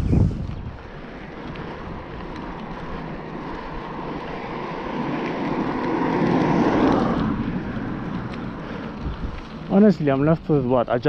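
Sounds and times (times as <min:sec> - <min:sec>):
bicycle road noise rushing: 0:00.0 - 0:11.0.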